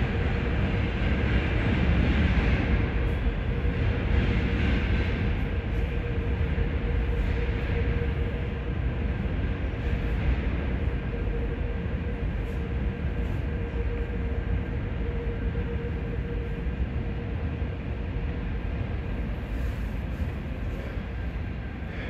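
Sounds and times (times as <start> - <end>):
train rumbling in tunnel: 0.0 - 22.0.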